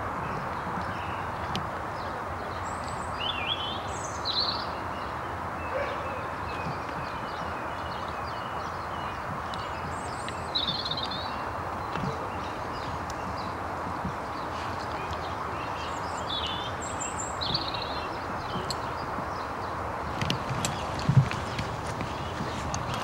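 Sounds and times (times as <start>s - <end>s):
small birds chirping: 0.3s - 23.0s.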